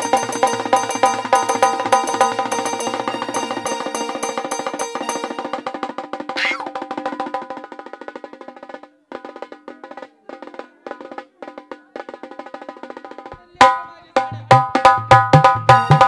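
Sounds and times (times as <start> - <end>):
hand drum rapid rolls: 0.0 - 16.0.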